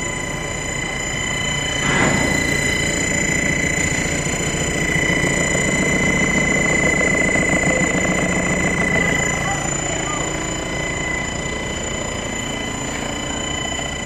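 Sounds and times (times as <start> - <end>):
high-pitched whine: 0.0 - 14.0
welding machine drone: 0.0 - 14.0.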